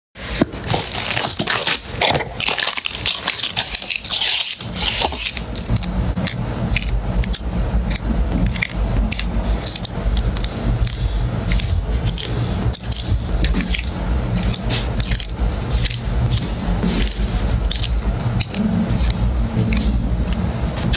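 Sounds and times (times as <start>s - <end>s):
low steady hum: 0.2s - 20.9s
puzzle pieces scraping and crinkling: 0.2s - 20.9s.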